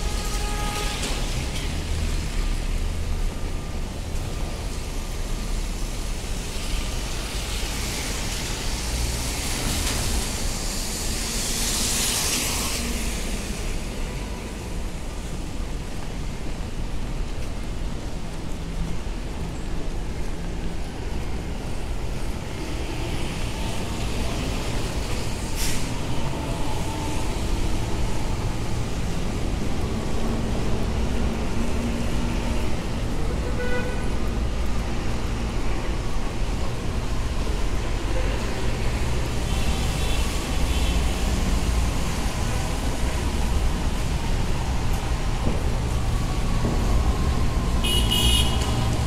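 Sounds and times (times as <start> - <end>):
rumble of traffic driving past: 0.0 - 49.0.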